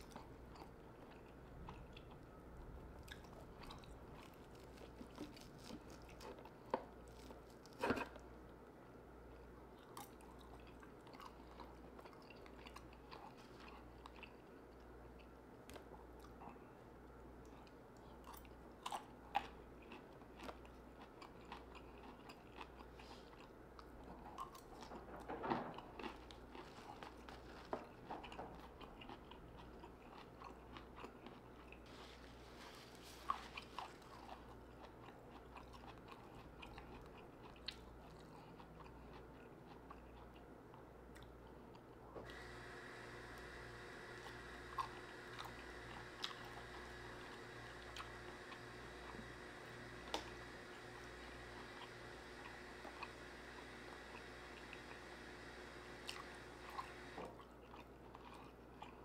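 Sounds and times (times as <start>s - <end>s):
faint chewing and biting: 0.0s - 59.0s.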